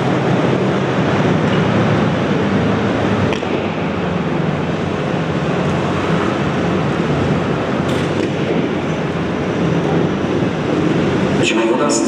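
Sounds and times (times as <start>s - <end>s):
motorcycle engines at high revs: 0.6s - 11.4s.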